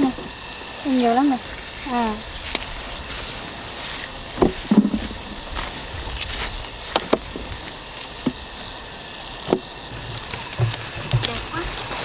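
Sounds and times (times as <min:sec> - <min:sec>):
leaves and branches rustling: 0:00.0 - 0:12.0.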